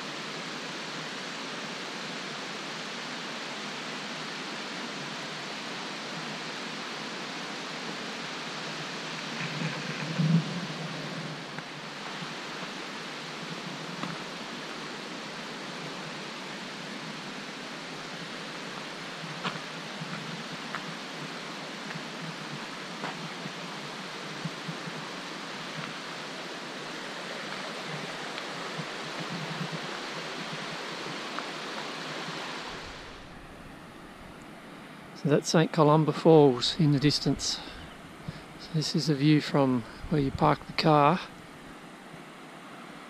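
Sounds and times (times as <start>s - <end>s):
water rushing: 0.0s - 43.0s.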